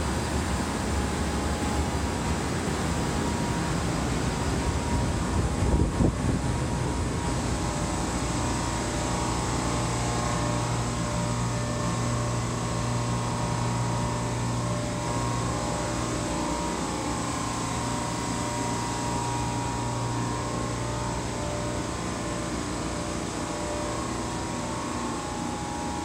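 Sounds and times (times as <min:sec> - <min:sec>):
ship engine machinery drone: 0:00.0 - 0:26.0.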